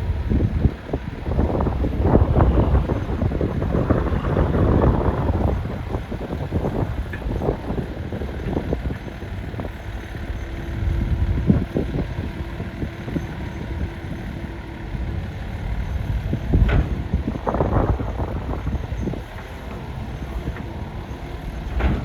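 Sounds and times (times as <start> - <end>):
excavator low rumble: 0.0 - 22.0.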